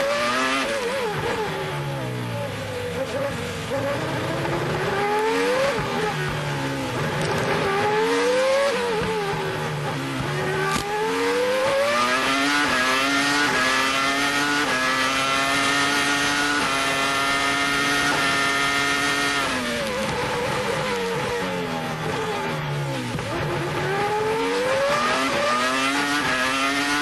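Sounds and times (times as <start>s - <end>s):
racing car engine at full throttle: 0.0s - 27.0s.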